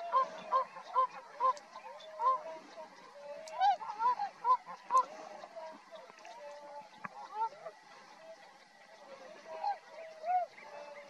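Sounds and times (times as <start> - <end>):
swans hooting: 0.0 - 11.0.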